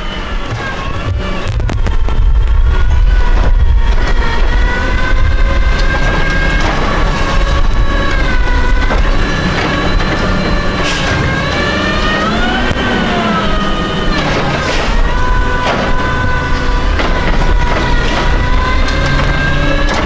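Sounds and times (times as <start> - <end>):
garbage truck engine running: 0.0 - 20.0
hydraulic pump whining: 0.0 - 20.0.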